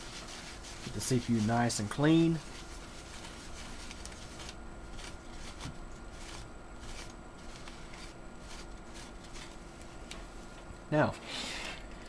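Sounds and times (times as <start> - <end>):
paper towel rubbing on metal: 0.0 - 10.0.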